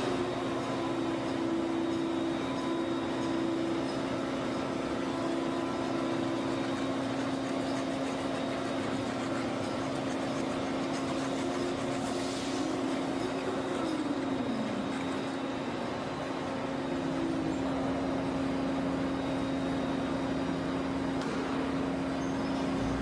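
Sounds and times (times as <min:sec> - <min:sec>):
machine humming with hiss: 0:00.0 - 0:23.0.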